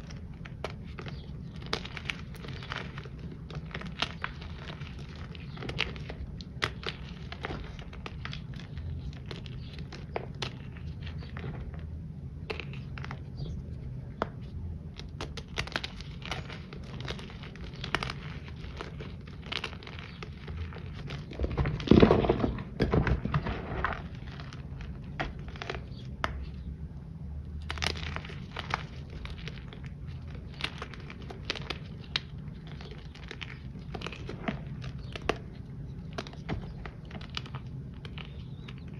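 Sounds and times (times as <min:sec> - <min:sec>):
powder chunks crumbling and crunching: 0:00.0 - 0:38.9.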